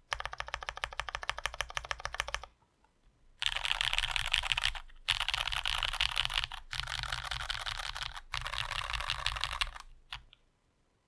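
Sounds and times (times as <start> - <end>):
mechanical keyboard typing: 0.0 - 2.5, 3.4 - 10.4.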